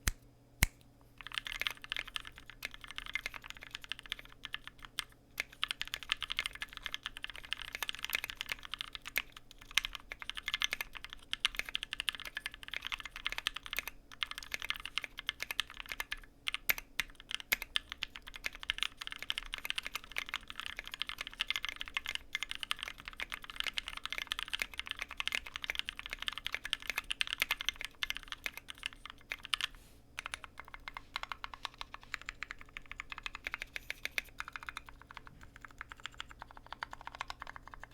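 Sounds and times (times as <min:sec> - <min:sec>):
mechanical keyboard typing: 0:01.2 - 0:37.9.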